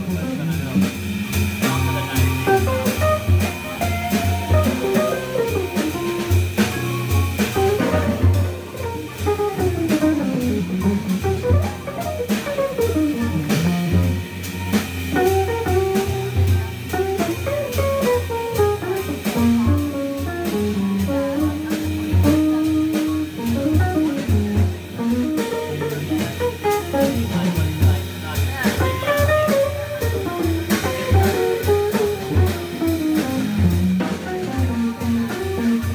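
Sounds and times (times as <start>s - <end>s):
electric guitar melody: 0.0s - 35.9s
organ bass line: 0.0s - 35.9s.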